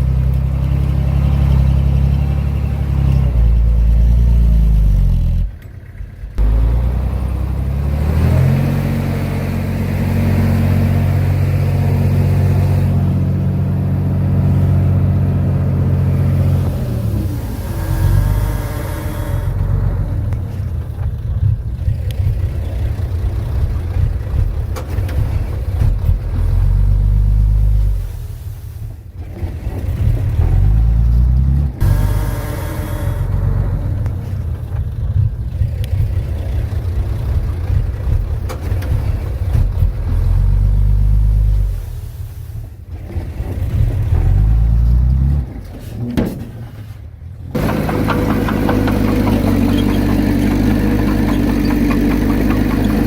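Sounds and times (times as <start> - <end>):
bulldozer engine under load: 0.0 - 53.0.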